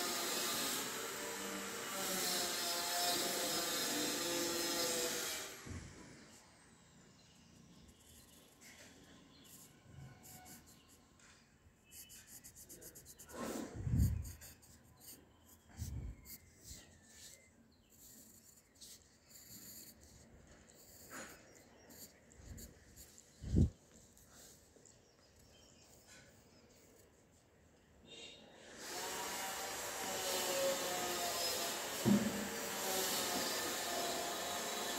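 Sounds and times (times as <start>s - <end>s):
pencil scratching on paper: 0.0s - 5.5s, 7.7s - 27.6s, 28.8s - 34.9s.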